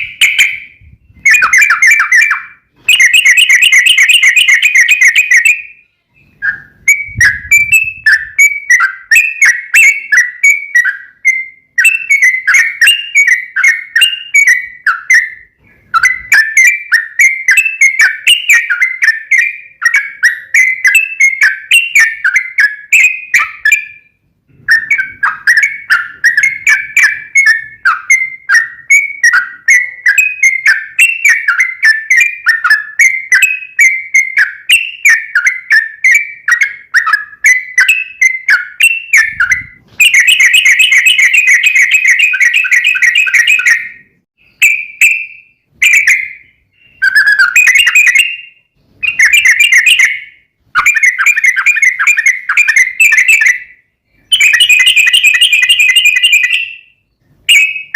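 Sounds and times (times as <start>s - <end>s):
bird singing chattering notes: 0.0s - 57.9s.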